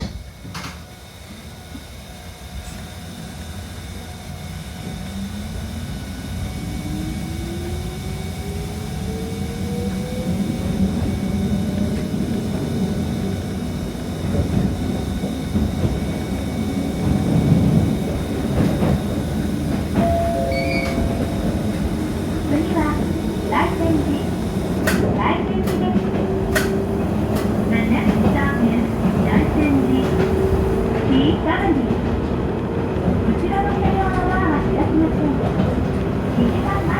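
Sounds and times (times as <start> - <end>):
wheel and rail rumble: 1.6 - 36.9.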